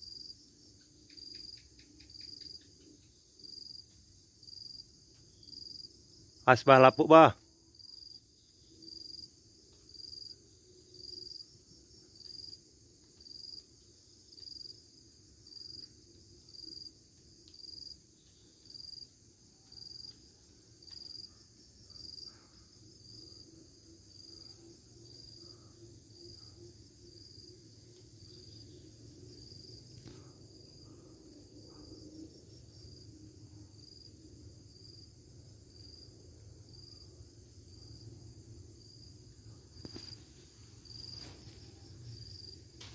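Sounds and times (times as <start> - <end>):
faint high insect chirp: 0.0 - 42.9
high-pitched insect drone: 0.0 - 42.9.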